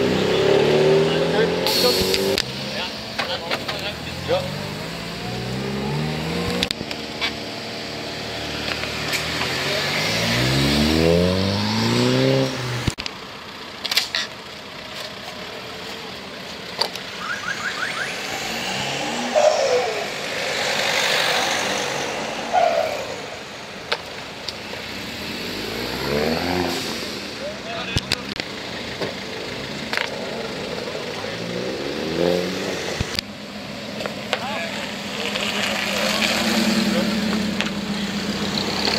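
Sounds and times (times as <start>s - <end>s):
car engines revving and accelerating: 0.0s - 38.9s.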